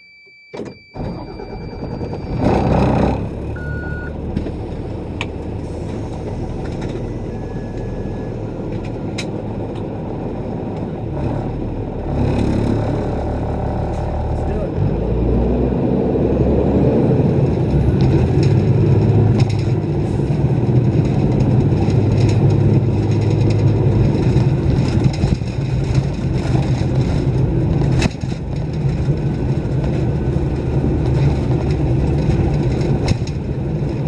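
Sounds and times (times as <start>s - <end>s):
diesel bus engine under load: 0.6s - 34.0s.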